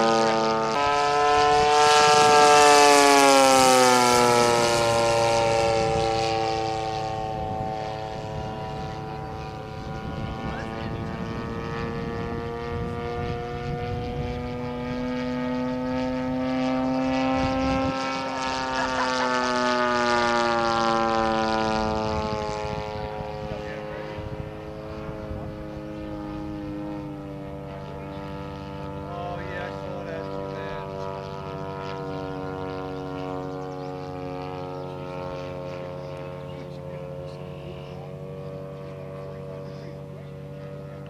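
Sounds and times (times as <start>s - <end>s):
model airplane engine droning: 0.0s - 41.0s.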